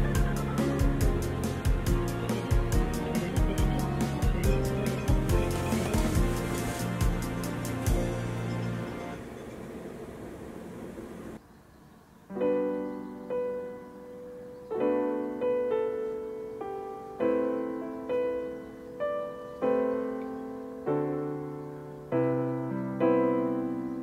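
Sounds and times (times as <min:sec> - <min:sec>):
slow piano music: 0:00.0 - 0:09.7, 0:12.2 - 0:24.0.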